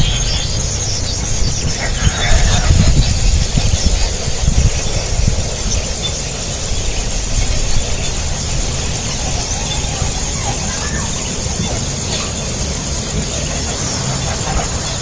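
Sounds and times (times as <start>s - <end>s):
nestlings squealing: 0.0s - 15.0s.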